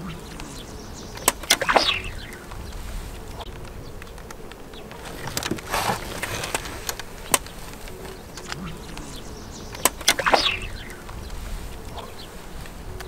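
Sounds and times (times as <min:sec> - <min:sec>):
sharp clicks and knocks: 0:00.4 - 0:13.0
short rustle: 0:02.4 - 0:13.0.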